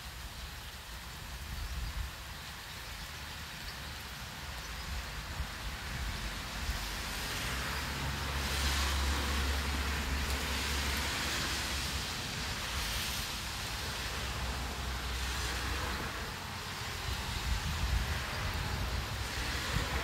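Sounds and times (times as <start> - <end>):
light rain falling: 0.0 - 20.0.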